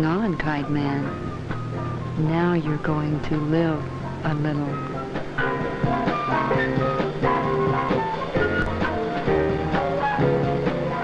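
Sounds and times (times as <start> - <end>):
upbeat film music: 0.0 - 11.0
plucked guitar-like notes: 0.2 - 11.0
steady bass: 0.2 - 11.0.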